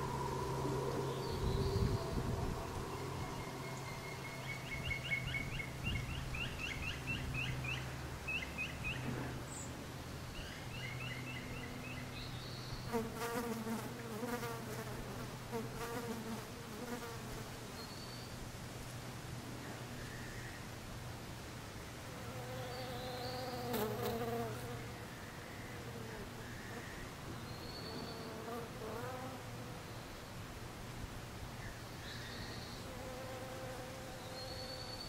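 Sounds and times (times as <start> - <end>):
insects buzzing: 0.0 - 18.5, 19.7 - 30.4, 31.6 - 35.0.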